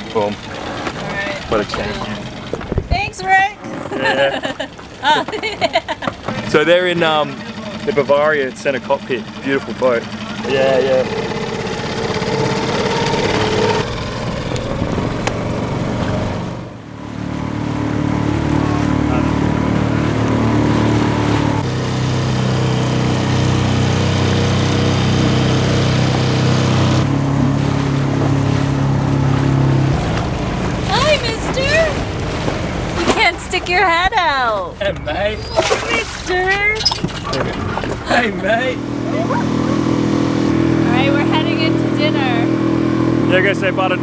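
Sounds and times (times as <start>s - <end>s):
outboard motor running: 0.0s - 44.0s.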